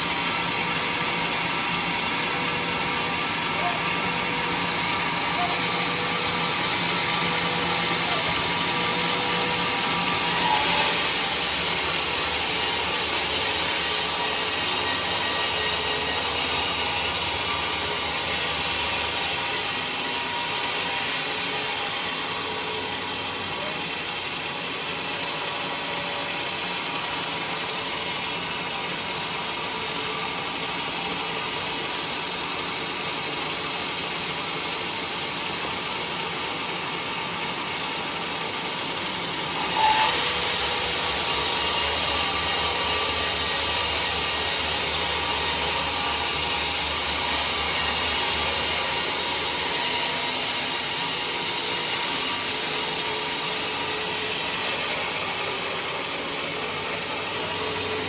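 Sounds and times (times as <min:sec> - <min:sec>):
woodworking machinery running: 0:00.0 - 0:58.0.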